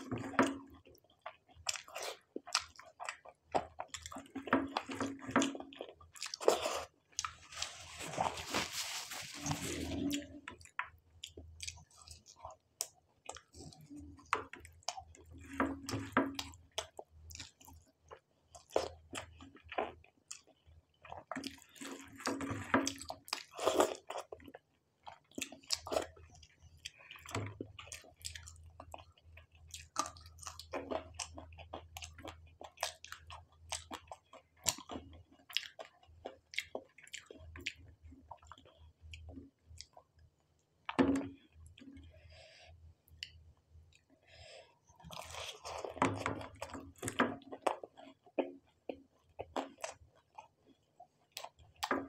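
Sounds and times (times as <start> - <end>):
crunchy chewing: 1.2 - 40.1, 45.0 - 51.8.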